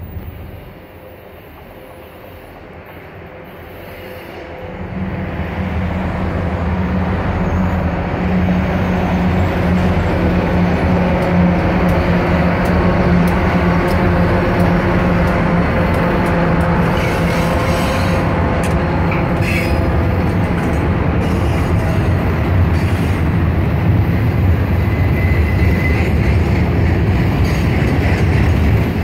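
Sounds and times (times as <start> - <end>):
diesel locomotives droning: 0.0 - 29.0.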